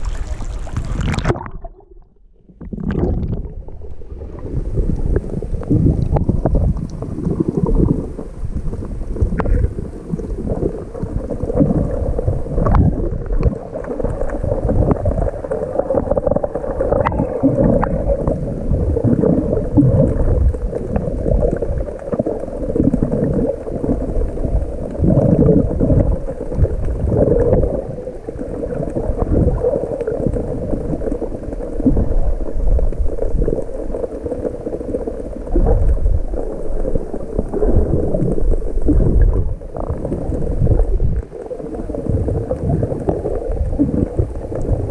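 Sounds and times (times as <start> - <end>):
water gurgling and churning: 0.0 - 44.9.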